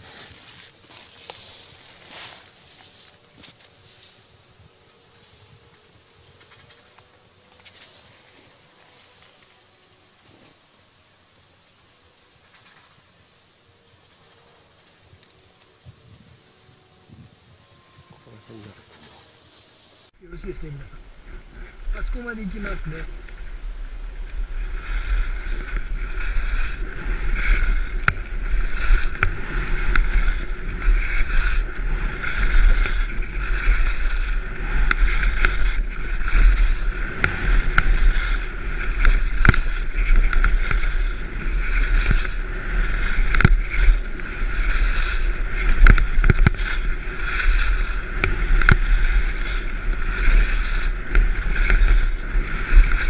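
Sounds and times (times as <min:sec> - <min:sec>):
skis scraping over snow: 0:00.0 - 0:11.1, 0:12.1 - 0:53.0
wind rumble on microphone: 0:01.4 - 0:08.7, 0:13.9 - 0:18.9, 0:20.2 - 0:53.0.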